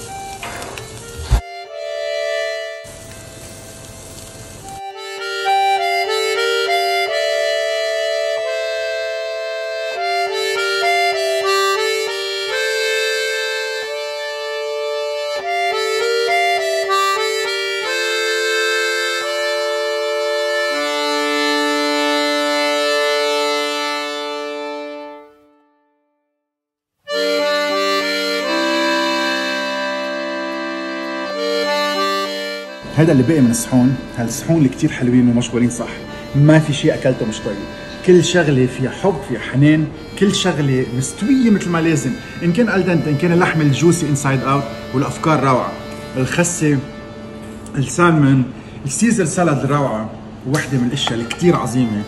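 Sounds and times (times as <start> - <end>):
instrumental music with held notes: 0.0 - 48.8, 50.2 - 52.0.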